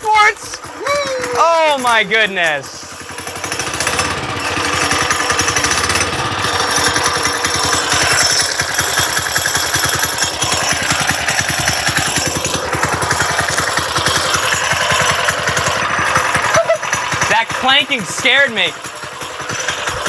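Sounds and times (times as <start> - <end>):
small engine running: 0.0 - 20.0
rapid metallic clanking: 0.4 - 20.0.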